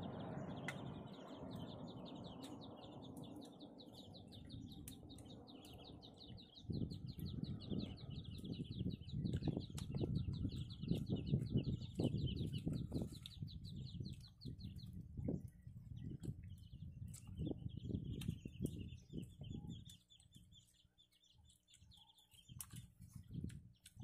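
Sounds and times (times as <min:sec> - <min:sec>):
bird chirping fast: 0:00.0 - 0:24.0
close-up chewing and handling noises: 0:00.2 - 0:24.0.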